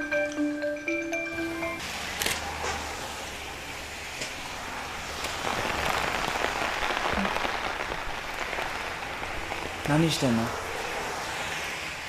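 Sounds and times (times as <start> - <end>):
steady rain falling: 1.8 - 12.0.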